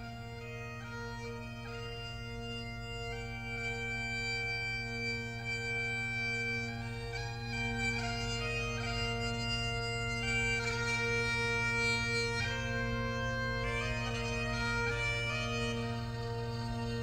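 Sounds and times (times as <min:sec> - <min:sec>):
bagpipe music: 0:00.0 - 0:17.0.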